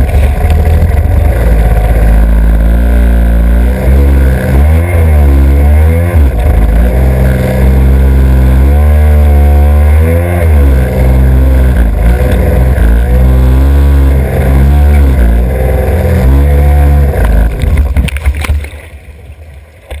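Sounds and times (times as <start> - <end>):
jet ski engine revving: 0.0 - 18.6.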